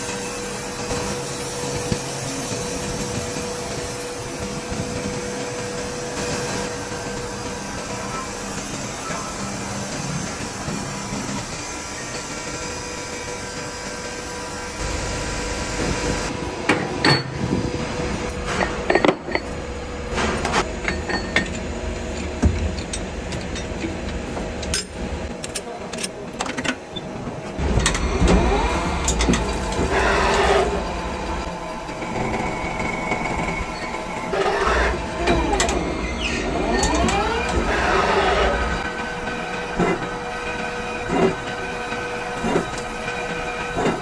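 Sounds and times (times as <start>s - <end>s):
machinery running: 0.0s - 44.0s.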